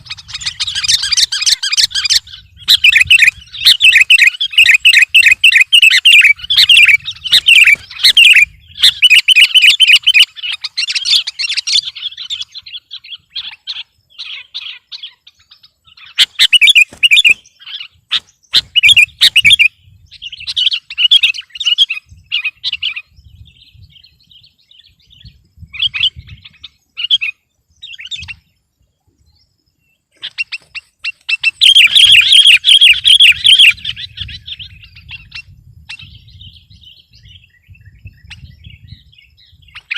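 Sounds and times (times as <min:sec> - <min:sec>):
bulbul singing: 0:00.0 - 0:28.6, 0:29.3 - 0:39.9.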